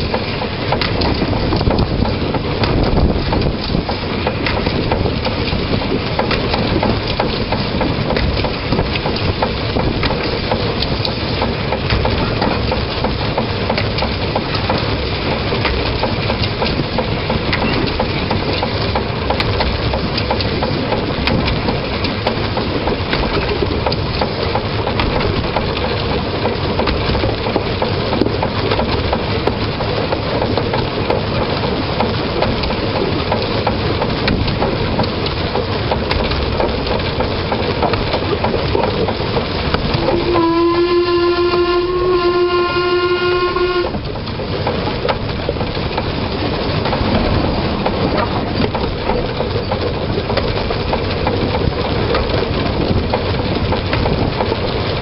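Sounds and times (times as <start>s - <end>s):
train rattling clatter: 0.0s - 55.0s.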